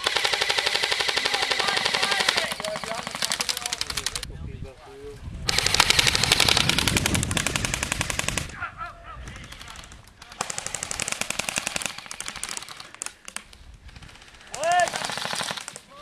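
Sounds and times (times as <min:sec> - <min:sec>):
airsoft guns firing full auto: 0:00.0 - 0:04.2, 0:05.5 - 0:08.6, 0:09.3 - 0:16.0.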